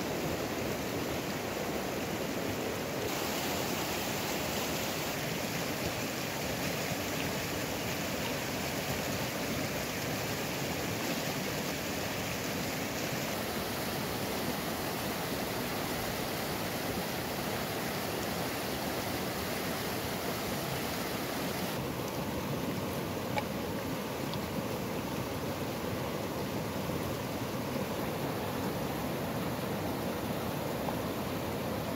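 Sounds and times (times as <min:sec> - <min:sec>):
stream rushing over rocks: 0:00.0 - 0:31.9.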